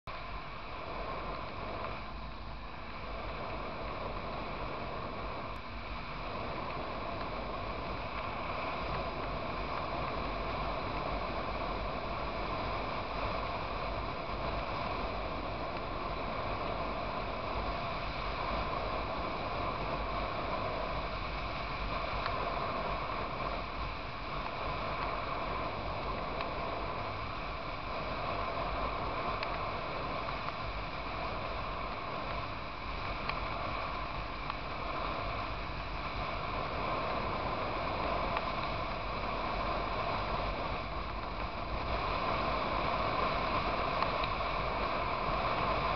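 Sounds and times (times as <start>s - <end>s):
wind rush over microphone: 0.1s - 45.9s.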